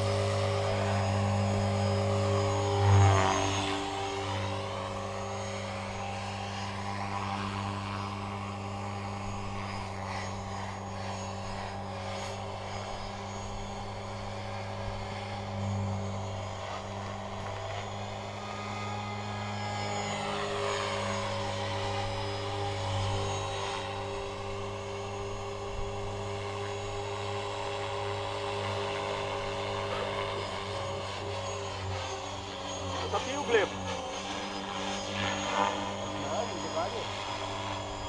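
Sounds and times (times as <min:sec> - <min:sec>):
model helicopter rotor and motor: 0:00.0 - 0:38.0.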